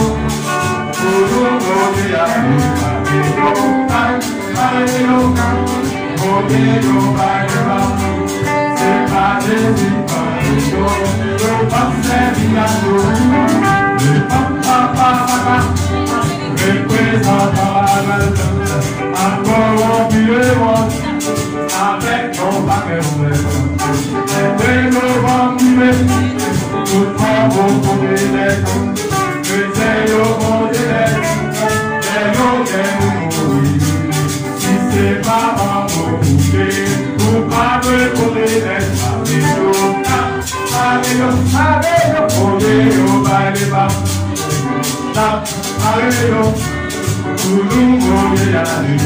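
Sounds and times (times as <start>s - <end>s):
male vocal group singing gospel: 0.0s - 49.0s
quick ticking beat: 0.0s - 49.0s.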